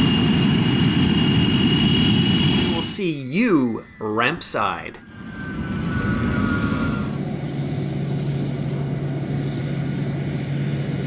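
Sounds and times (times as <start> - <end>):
jet engine high whine: 0.0 - 11.0
jet engine roar: 0.0 - 11.0
low engine drone: 0.0 - 11.0.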